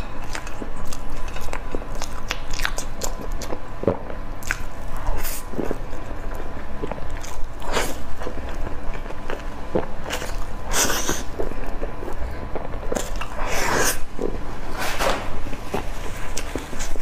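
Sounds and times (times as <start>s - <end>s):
person chewing: 0.0s - 14.4s.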